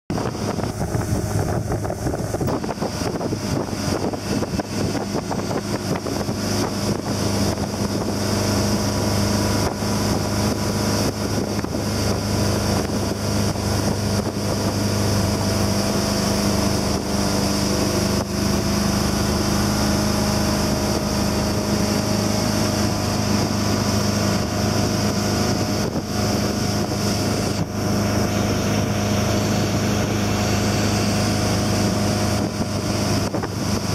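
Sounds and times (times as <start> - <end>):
boat engine hum: 0.1 - 33.9
water rushing past hull: 0.1 - 33.9
wind buffeting microphone: 0.1 - 33.9.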